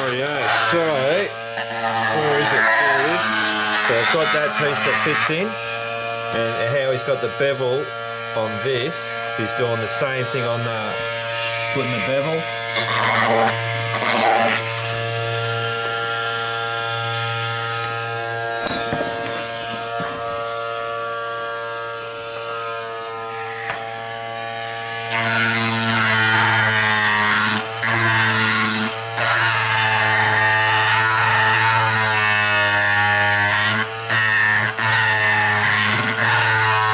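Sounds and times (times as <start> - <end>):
power tool motor buzzing: 0.0 - 36.9.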